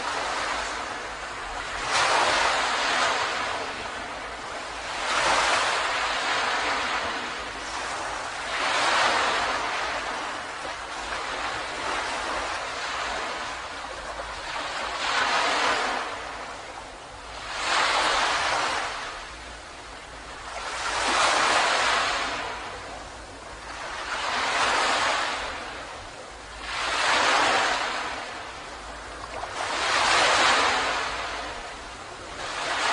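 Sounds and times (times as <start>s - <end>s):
ocean surf breaking on beach: 0.0s - 32.9s.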